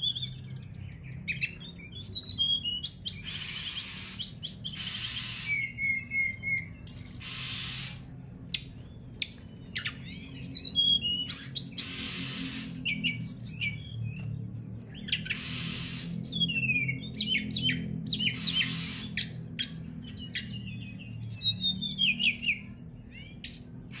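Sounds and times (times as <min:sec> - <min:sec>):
bird singing chirps and whistles: 0:00.0 - 0:24.0.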